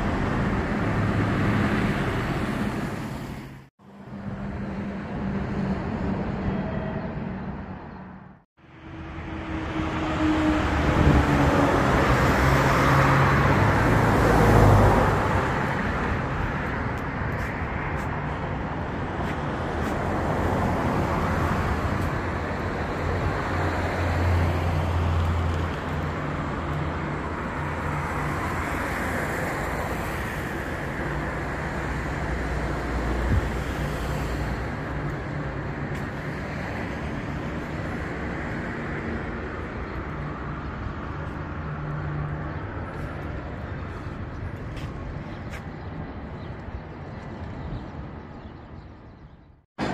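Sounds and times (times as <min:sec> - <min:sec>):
traffic rumble: 0:00.0 - 0:49.9.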